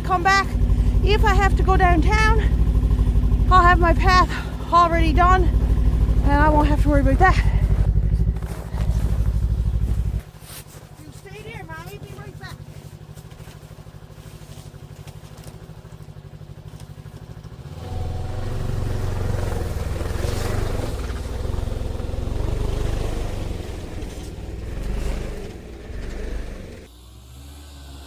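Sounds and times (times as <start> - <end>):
snowmobile engine revving: 0.0 - 15.6, 17.5 - 28.0.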